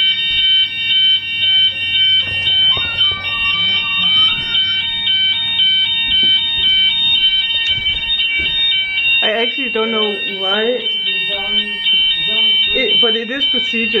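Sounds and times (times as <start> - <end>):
fire alarm pulsing tone: 0.0 - 14.0.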